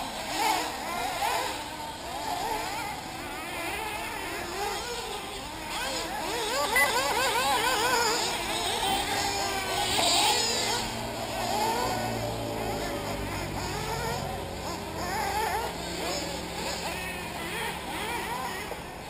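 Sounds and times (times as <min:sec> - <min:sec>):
rc car engines whining: 0:00.0 - 0:19.0.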